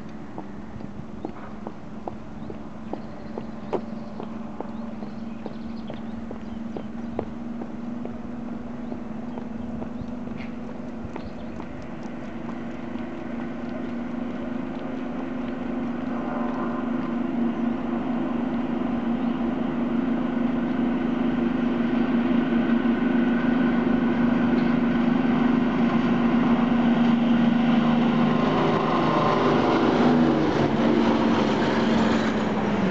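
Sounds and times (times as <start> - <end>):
diesel locomotive engines droning: 0.0 - 32.9
wheel and rail noise: 0.0 - 32.9.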